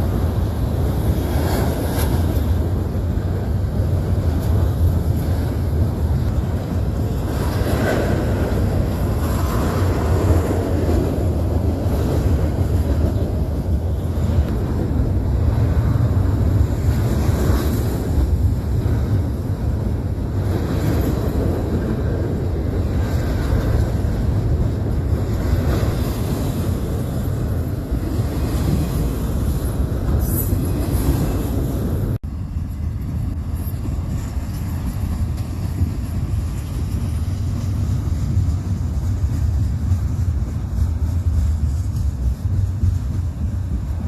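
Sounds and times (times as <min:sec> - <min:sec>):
freight train rumbling past: 0:00.0 - 0:44.0
wind buffeting microphone: 0:00.0 - 0:44.0.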